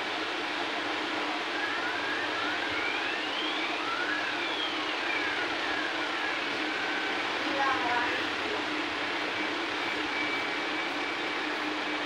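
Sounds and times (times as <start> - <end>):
faint siren wailing: 0.8 - 12.0.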